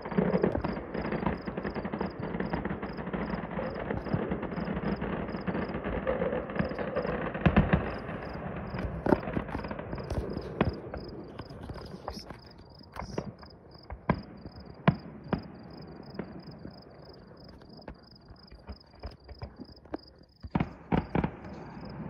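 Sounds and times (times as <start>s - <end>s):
crickets chirping: 0.0s - 22.0s
distant fireworks bangs: 0.0s - 22.0s.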